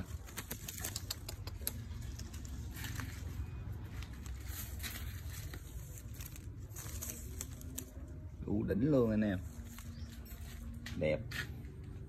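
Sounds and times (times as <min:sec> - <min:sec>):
leaves rustling: 0:00.0 - 0:11.4.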